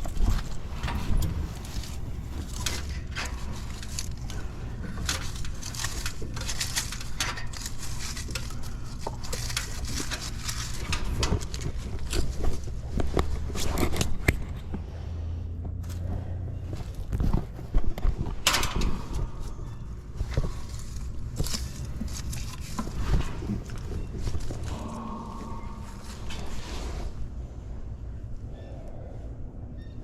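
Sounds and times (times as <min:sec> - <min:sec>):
crackling and clicking handling noises: 0:00.0 - 0:27.3
low machine hum: 0:00.0 - 0:30.0.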